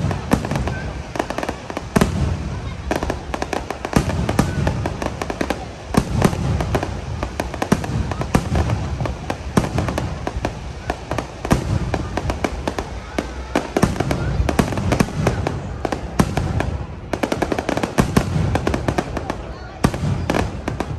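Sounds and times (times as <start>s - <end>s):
fireworks bangs and cracks: 0.0s - 20.9s.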